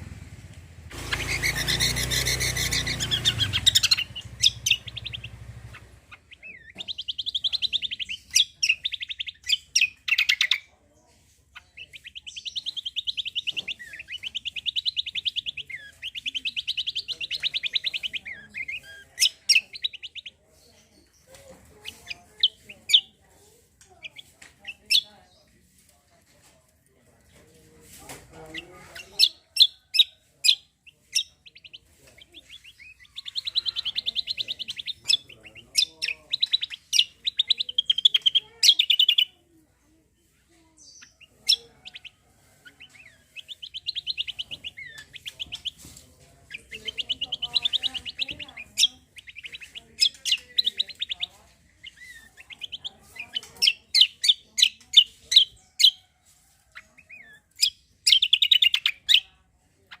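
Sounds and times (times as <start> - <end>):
bird chirps: 0.2 - 25.8, 28.0 - 39.5, 40.2 - 60.0
songbird trilling: 0.9 - 10.7, 11.5 - 25.2, 28.3 - 39.4, 40.8 - 56.0, 56.7 - 60.0.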